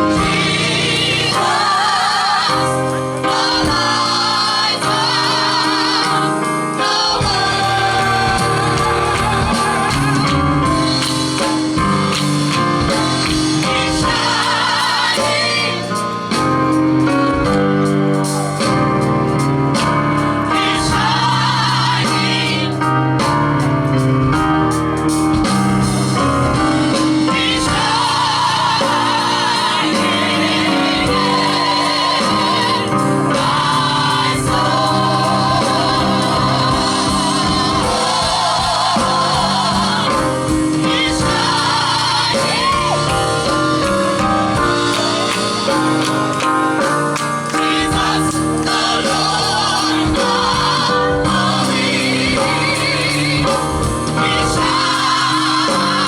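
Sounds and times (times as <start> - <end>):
bass and keyboard backing: 0.0 - 56.0
gospel group singing: 0.0 - 56.0.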